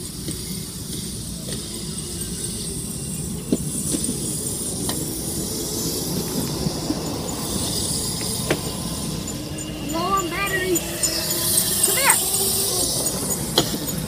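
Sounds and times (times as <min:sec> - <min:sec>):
electric dirt bike rumble: 0:00.0 - 0:14.0.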